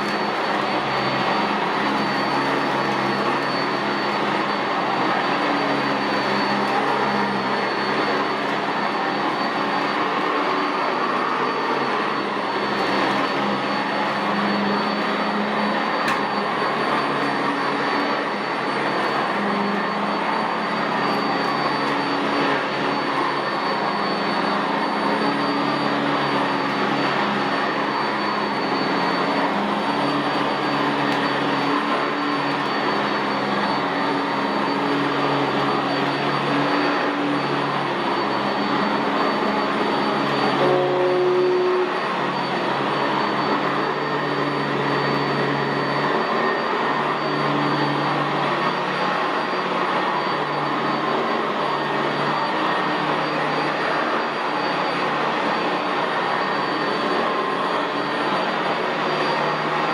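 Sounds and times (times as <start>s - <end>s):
upright vacuum running on carpet: 0.0s - 59.9s.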